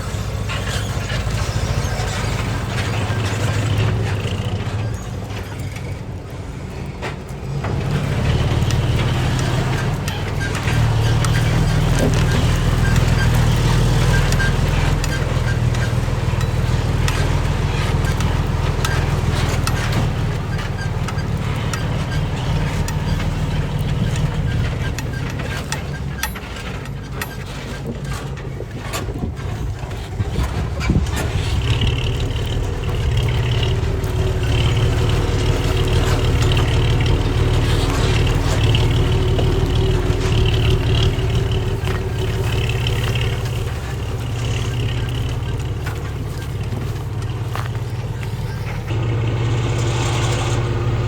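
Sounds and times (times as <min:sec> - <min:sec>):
heavy machinery diesel engine: 0:00.0 - 0:51.0
clanks of steel and stone: 0:06.9 - 0:51.0.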